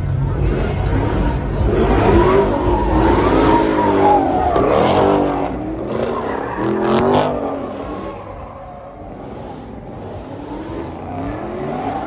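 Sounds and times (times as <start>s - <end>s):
car engine revving: 0.0s - 12.0s
tyres squealing on asphalt: 0.0s - 12.0s.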